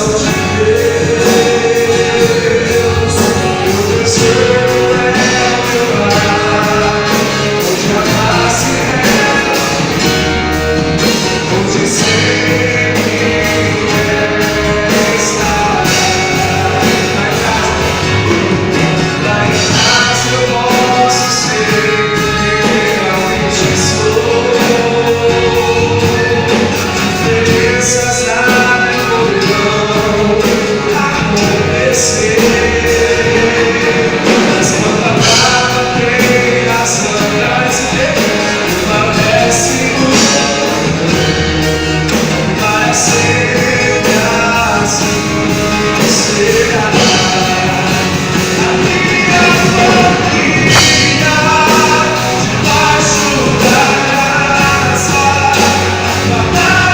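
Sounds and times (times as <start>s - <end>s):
gospel band playing: 0.0s - 56.9s
person singing: 0.0s - 56.9s.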